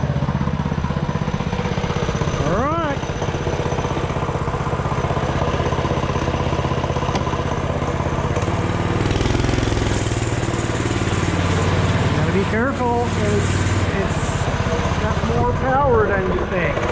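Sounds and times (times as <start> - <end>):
mini bike engine running: 0.0 - 16.9.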